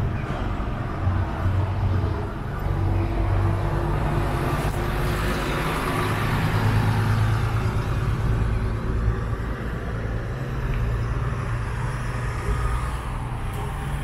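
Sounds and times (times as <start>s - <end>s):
tyre and road noise: 0.0s - 14.0s
vehicles passing close by: 0.0s - 14.0s.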